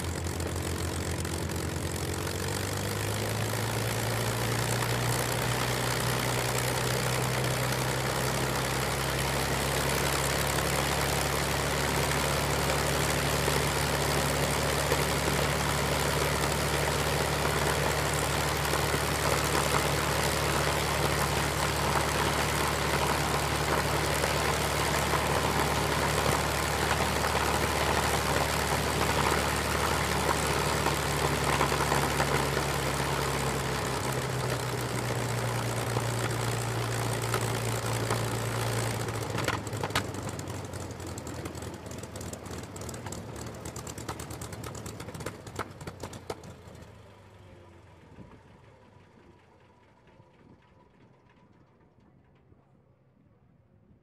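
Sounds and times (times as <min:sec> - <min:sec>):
propeller winding down knocks: 0:00.0 - 0:46.8
piston aircraft engine idling: 0:00.0 - 0:51.6.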